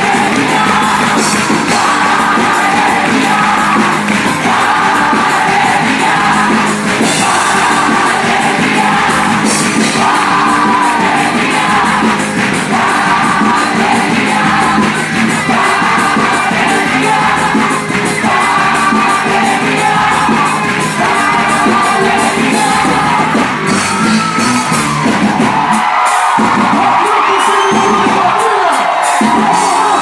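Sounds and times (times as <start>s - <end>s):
festive music with singing: 0.0s - 30.0s
people shouting and whooping: 0.0s - 30.0s.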